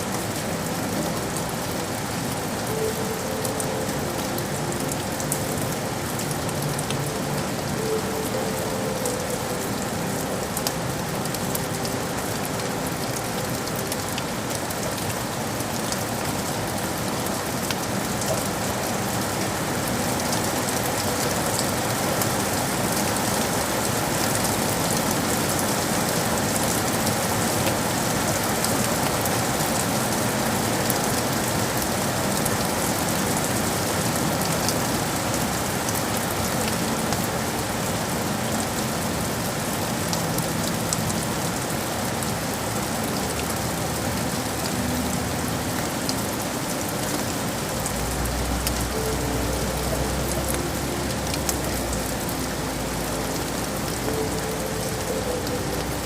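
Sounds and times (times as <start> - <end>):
rain on city surfaces: 0.0 - 56.0.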